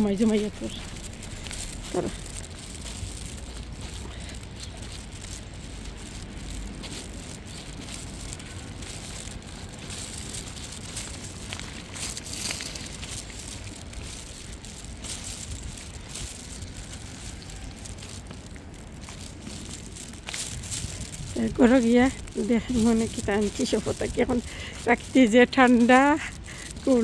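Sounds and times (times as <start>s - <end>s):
rustling and crackling: 0.0s - 27.0s
wind rumble on microphone: 0.0s - 27.0s.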